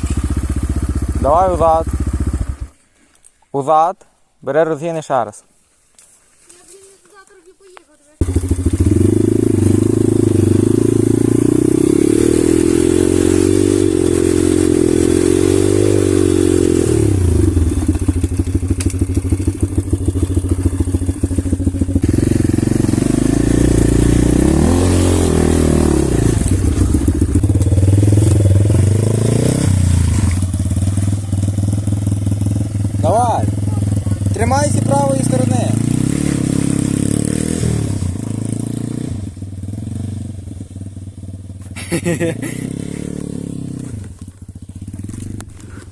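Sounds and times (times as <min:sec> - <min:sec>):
pit bike engine revving: 0:00.0 - 0:02.8, 0:08.2 - 0:45.9.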